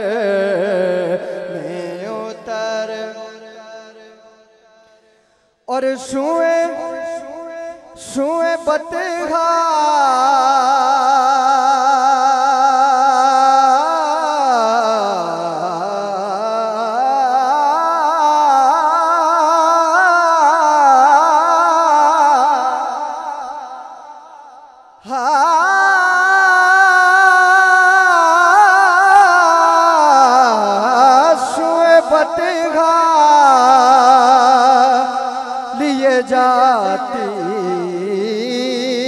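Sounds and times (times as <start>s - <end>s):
man singing into a microphone: 0.0s - 39.0s.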